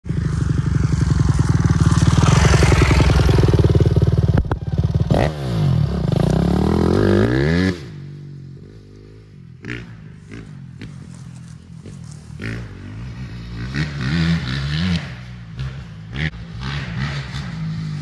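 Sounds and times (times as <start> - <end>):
dirt bike engine revving: 0.1 - 8.1, 9.6 - 18.0.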